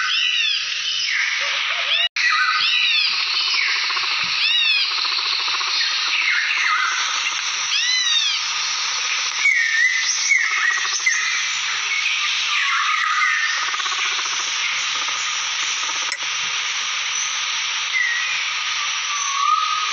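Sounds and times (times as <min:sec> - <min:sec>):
chorus of calling wildlife: 0:00.0 - 0:19.9.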